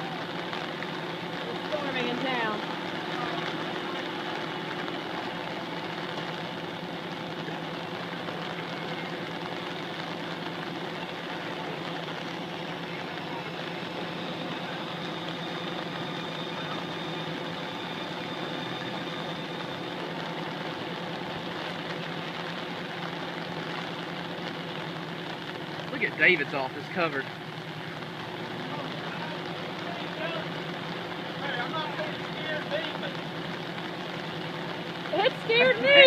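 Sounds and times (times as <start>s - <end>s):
diesel engine running: 0.0s - 36.0s
rain falling: 0.0s - 36.0s.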